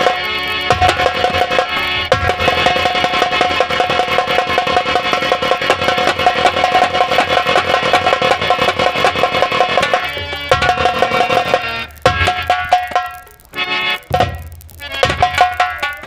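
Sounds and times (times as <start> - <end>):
fast drumming: 0.0 - 16.0
held melodic note: 0.0 - 16.0.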